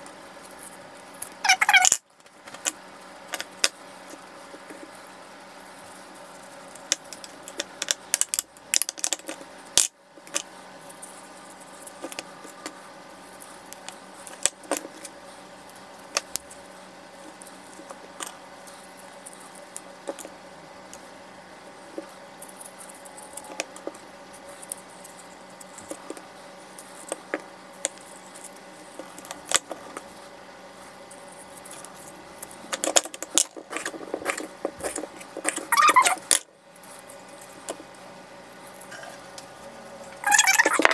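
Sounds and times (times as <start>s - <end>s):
faint hum: 0.0s - 40.9s.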